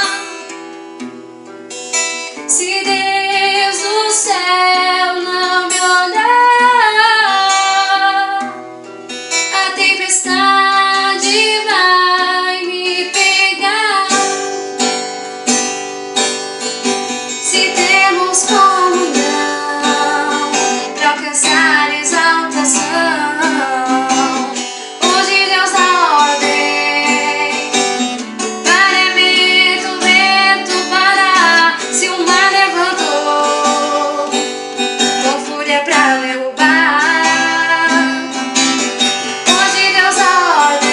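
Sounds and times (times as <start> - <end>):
woman singing a hymn: 0.0 - 0.4, 2.5 - 8.5, 9.5 - 14.4, 17.4 - 34.5, 35.2 - 38.6, 39.4 - 40.9
strummed acoustic guitar: 0.0 - 40.9.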